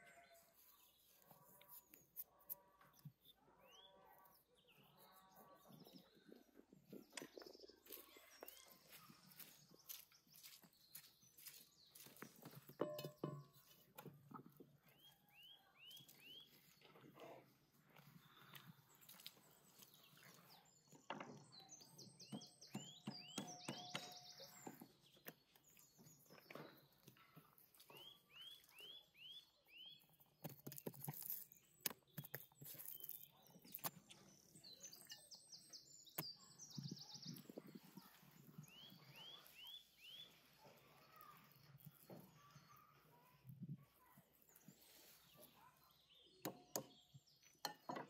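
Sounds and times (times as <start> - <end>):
songbird chirps and trill: 0.0 - 17.1, 17.9 - 48.0.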